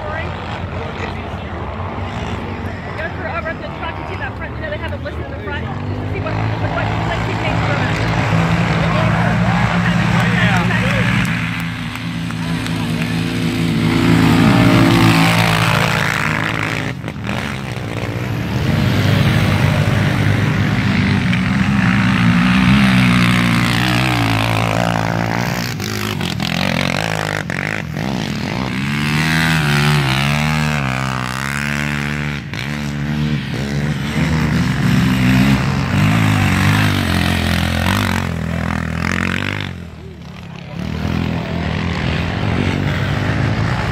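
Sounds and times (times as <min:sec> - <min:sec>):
atv engines revving: 0:00.0 - 0:43.9.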